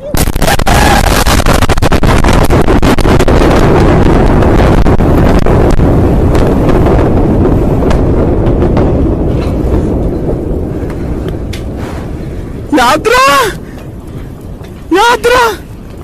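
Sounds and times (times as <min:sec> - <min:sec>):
explosion roar and rumble: 0:00.0 - 0:16.0
sharp crackles: 0:00.0 - 0:16.0.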